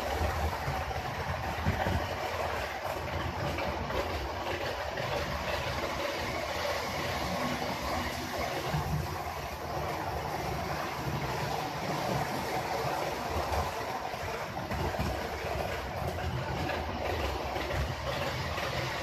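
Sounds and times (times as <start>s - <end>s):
model train motors whirring: 0.0s - 19.0s.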